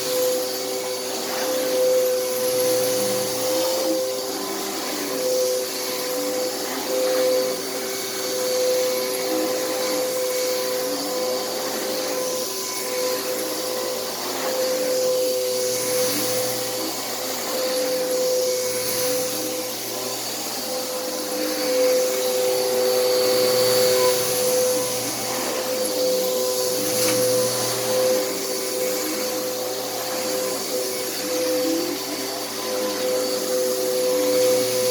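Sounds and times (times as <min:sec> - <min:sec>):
vacuum cleaner running on carpet: 0:00.0 - 0:34.9.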